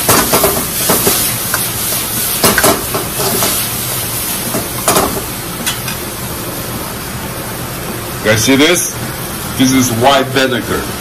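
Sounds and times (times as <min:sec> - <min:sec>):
beans sizzling in a wok: 0:00.0 - 0:09.6.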